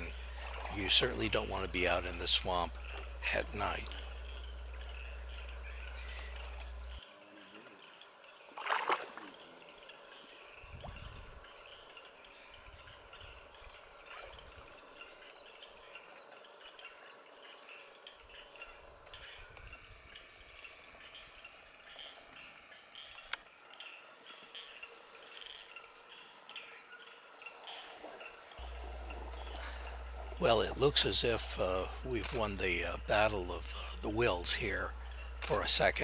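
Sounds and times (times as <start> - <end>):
swamp insect chorus drone: 0.0 - 36.0.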